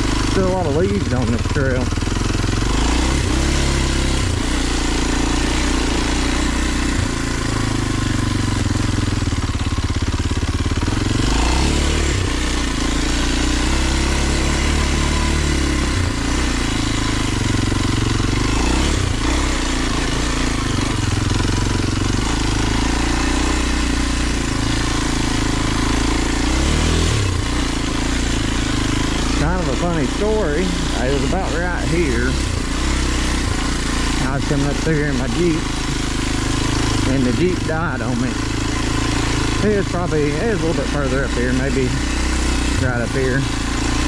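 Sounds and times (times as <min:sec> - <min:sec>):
motorcycle engine under load: 0:00.0 - 0:44.0.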